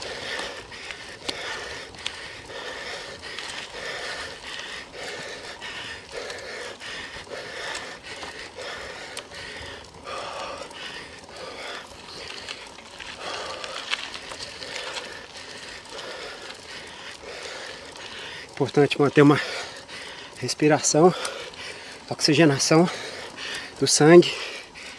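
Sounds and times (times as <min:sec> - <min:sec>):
person panting: 0:00.0 - 0:24.9.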